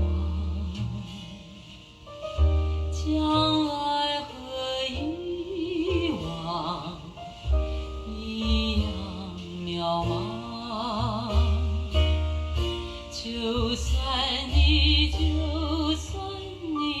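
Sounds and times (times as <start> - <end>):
long held bass notes: 0.0 - 4.1, 4.9 - 17.0.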